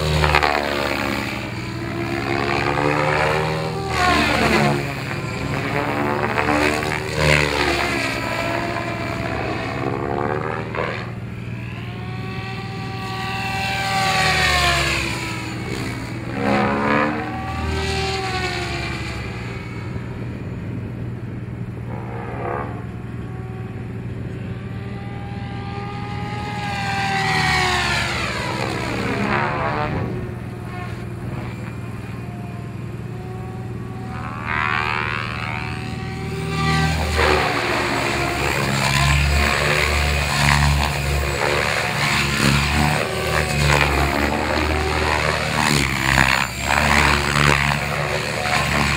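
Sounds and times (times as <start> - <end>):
radio-controlled helicopter whine: 0.0 - 48.9
steady low hum: 0.0 - 48.9.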